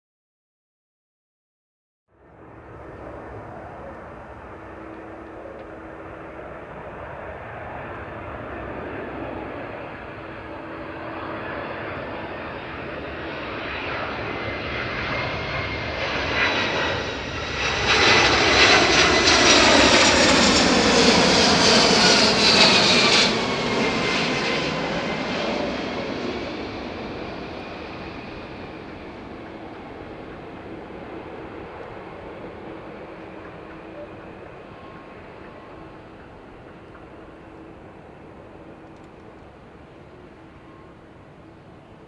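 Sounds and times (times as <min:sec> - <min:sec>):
jet airliner passing overhead: 0:02.1 - 0:42.0.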